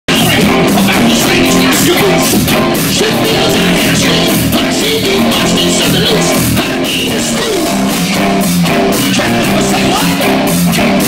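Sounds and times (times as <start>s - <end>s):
hard rock band playing live: 0.1s - 11.0s
singer's voice: 0.1s - 11.0s.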